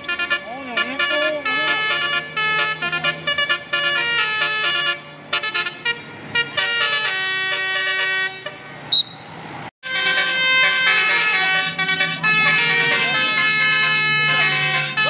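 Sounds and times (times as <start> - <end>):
bus horn playing a melody: 0.0 - 8.9, 9.8 - 15.0.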